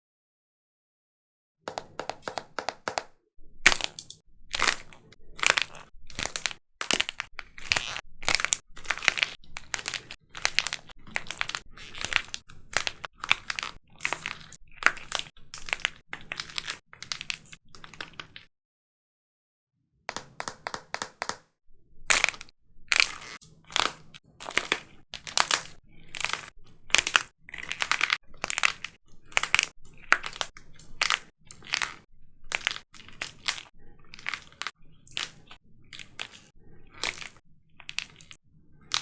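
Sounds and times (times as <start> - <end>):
dried clay cracking and crunching: 3.6 - 18.5, 22.1 - 39.0.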